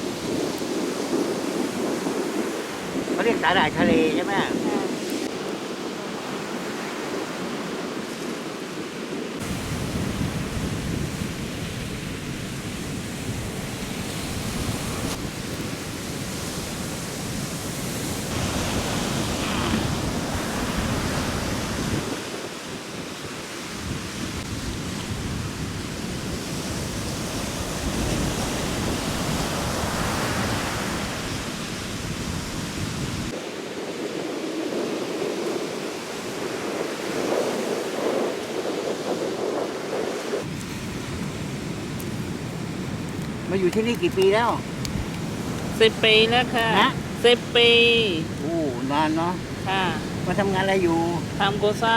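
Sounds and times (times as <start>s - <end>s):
surf washing onto beach: 0.0s - 51.9s
wind rumbling on microphone: 0.0s - 51.9s.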